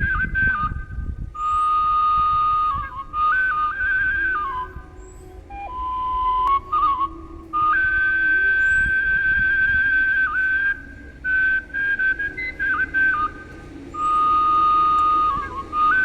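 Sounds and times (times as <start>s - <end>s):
whistled flute-like melody: 0.0s - 16.0s.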